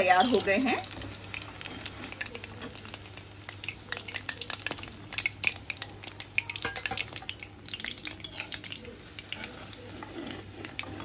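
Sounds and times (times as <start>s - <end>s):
fritters deep-frying in oil: 0.0s - 11.0s
metal spatula turning fritters: 0.0s - 11.0s.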